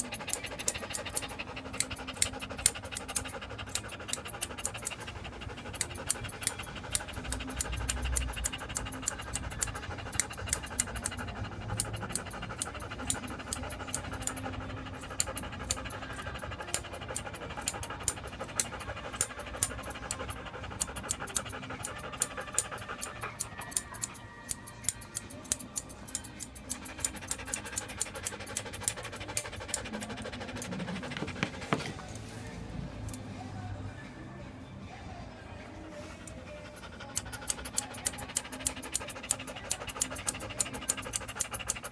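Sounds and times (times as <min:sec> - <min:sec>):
scissors snipping hair: 0:00.0 - 0:33.4, 0:36.0 - 0:41.9
dog panting: 0:00.0 - 0:33.8, 0:35.0 - 0:41.9.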